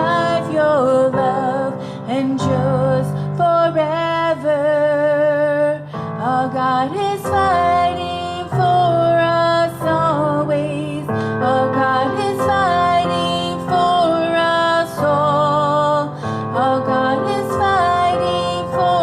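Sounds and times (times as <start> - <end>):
slow gentle worship song: 0.0 - 19.0.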